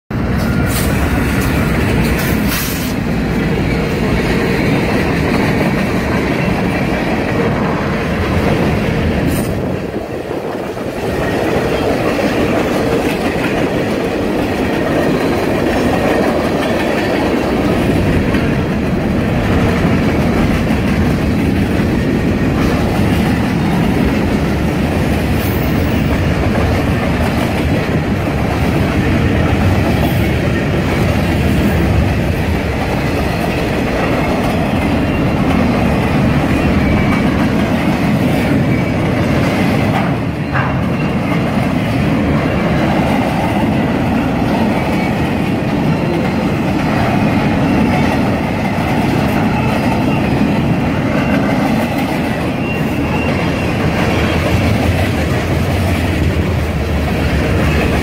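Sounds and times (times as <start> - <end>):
diesel locomotives passing: 0.1 - 58.0
freight wheels clickety-clack: 0.2 - 58.0.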